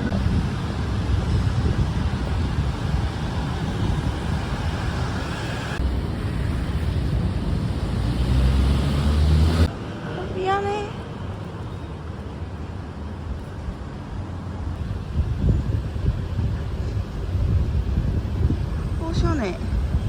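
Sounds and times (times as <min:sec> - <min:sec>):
passing cars rumbling: 0:00.0 - 0:20.0.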